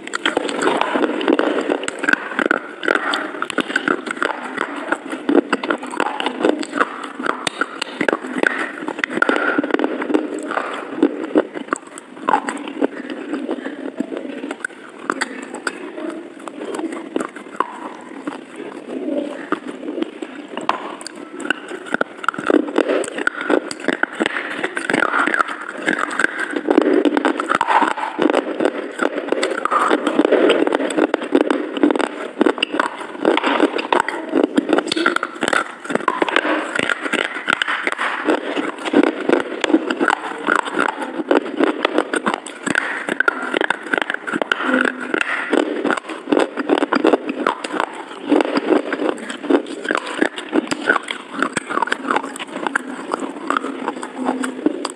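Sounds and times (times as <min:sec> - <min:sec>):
person chewing: 0:00.0 - 0:54.9.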